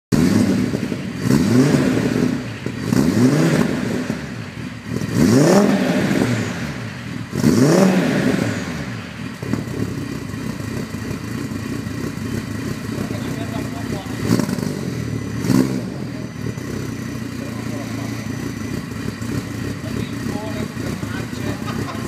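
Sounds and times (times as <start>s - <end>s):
car engine revving and idling: 0.1s - 22.0s.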